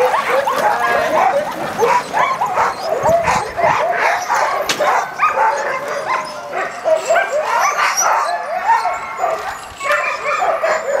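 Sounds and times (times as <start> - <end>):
sled dogs barking and yipping: 0.0 - 11.0.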